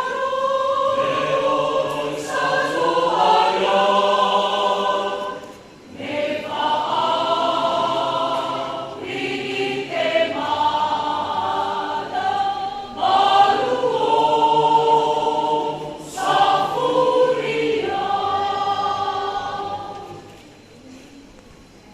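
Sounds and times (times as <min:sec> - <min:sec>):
choir singing a hymn: 0:00.0 - 0:20.5.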